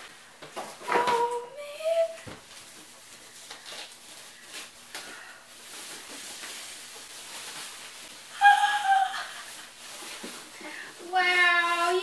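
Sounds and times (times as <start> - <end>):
plastic wrapping rustling: 0.0 - 12.0.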